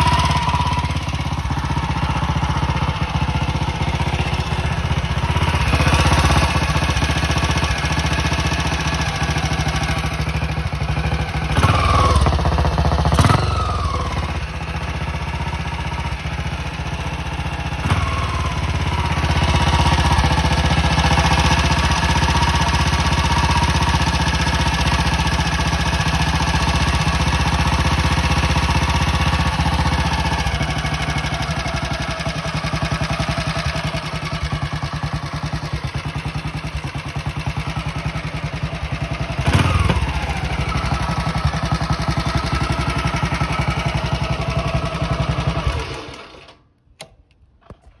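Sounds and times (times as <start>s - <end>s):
motorcycle engine idling and revving: 0.0s - 48.0s.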